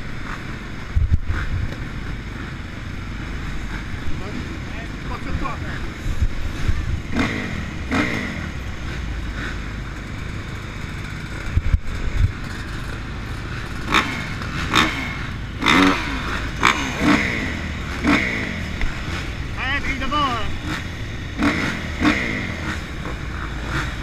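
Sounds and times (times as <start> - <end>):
motorbike engines idling: 0.0 - 24.0.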